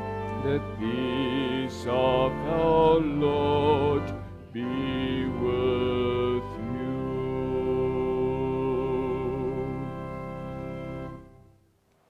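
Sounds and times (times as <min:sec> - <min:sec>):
man singing with vibrato: 0:00.0 - 0:10.1
organ chords: 0:00.0 - 0:11.8.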